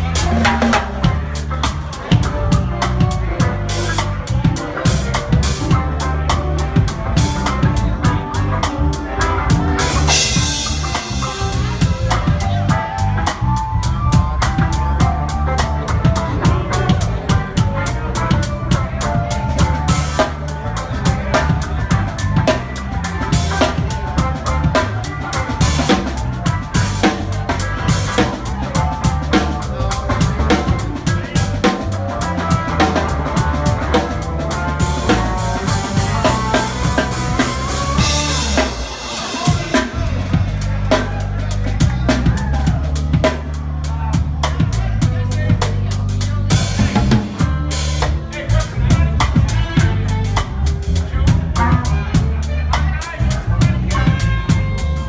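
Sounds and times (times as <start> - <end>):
bass line: 0.0 - 55.0
drum kit beat: 0.0 - 55.0
live rock band playing: 0.0 - 55.0.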